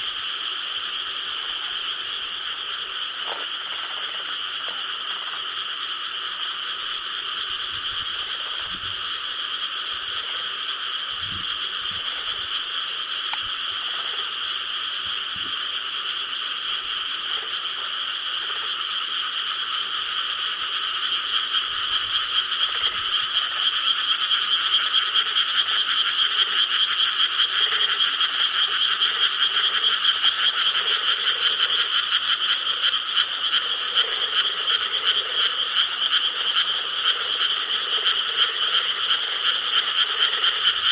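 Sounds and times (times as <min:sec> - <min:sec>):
frogs croaking in chorus: 0:00.0 - 0:40.9.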